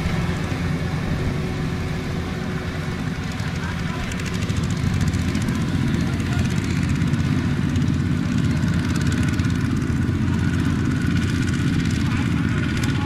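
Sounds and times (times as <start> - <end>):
diesel tractor engine running: 0.0 - 13.0.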